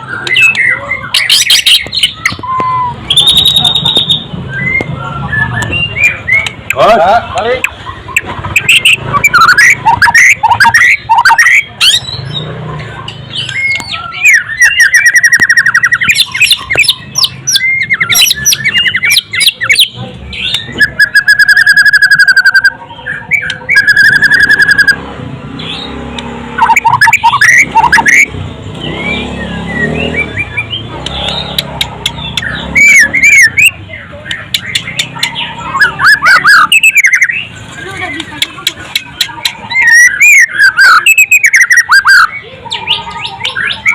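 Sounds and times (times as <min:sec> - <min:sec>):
songbird singing whistled notes: 0:00.0 - 0:06.8, 0:07.8 - 0:12.5, 0:13.3 - 0:25.0, 0:26.6 - 0:43.9.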